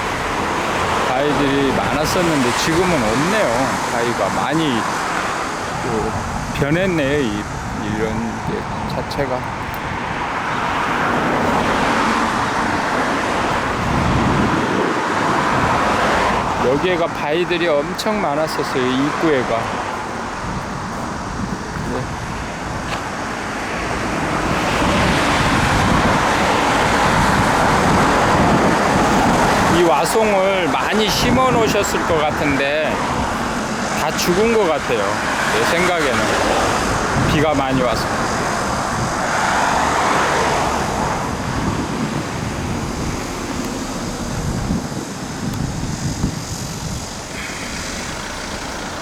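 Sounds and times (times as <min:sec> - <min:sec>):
engine passing by: 0:00.0 - 0:49.0
road traffic rushing past: 0:00.0 - 0:49.0.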